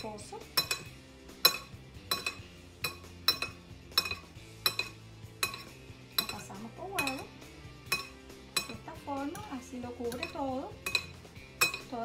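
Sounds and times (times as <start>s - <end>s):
fork clinking against ceramic bowl: 0.4s - 9.5s, 10.1s - 12.0s.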